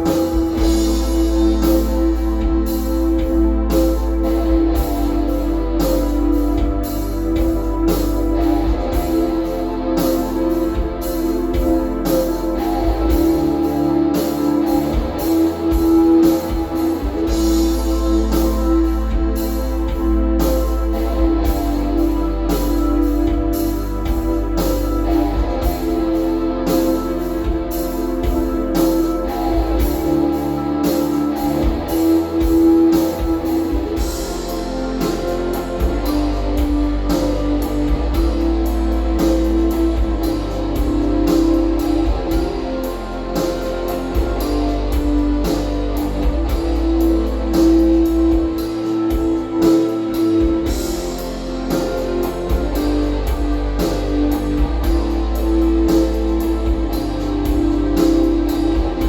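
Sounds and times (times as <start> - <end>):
music with guitar and drums: 0.0 - 59.0.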